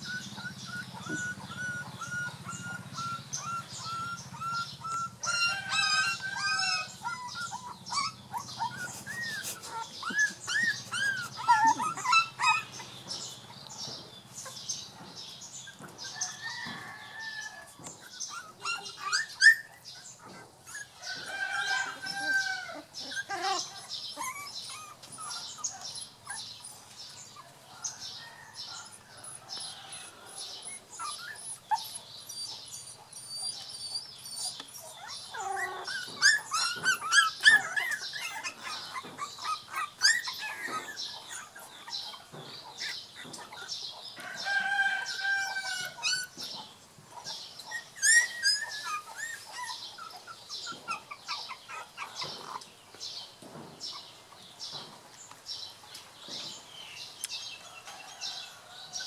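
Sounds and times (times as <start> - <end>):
puppies whimpering and yelping: 0.0 - 52.7
birds chirping: 0.0 - 59.0.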